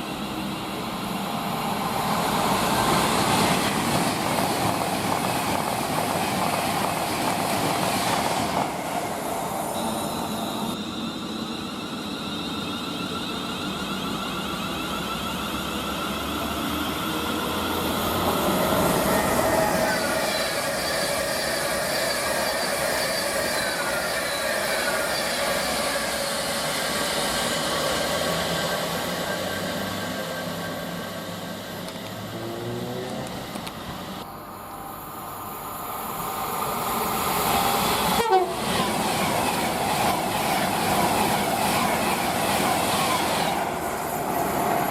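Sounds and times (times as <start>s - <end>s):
train passing: 0.0s - 44.9s.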